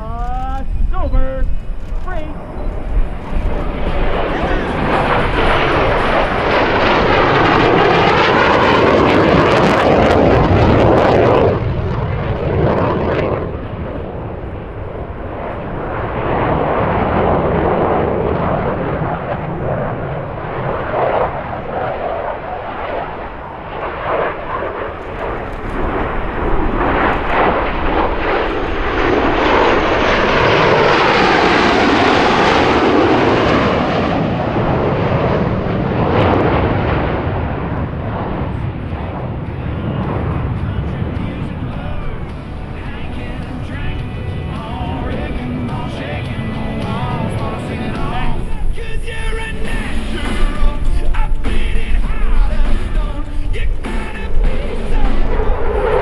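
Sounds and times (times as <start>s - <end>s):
jet engines flying by: 0.0s - 56.0s.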